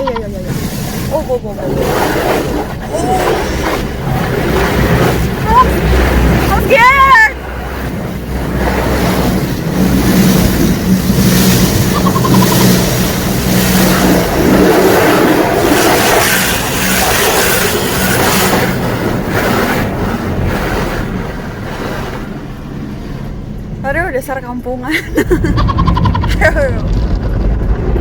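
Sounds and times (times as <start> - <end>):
machinery hum: 0.0 - 28.0
water spraying against car: 0.0 - 28.0.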